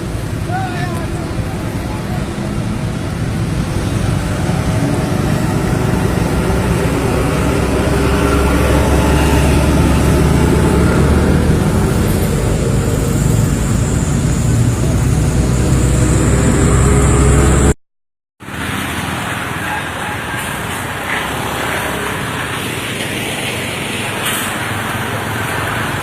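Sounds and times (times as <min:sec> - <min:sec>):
road traffic rumble: 0:00.0 - 0:17.8, 0:18.4 - 0:26.0.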